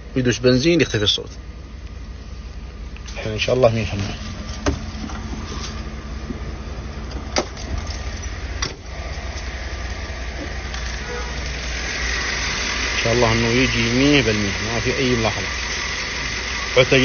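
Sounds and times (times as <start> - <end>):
car engine idling rumble: 0.0 - 17.0.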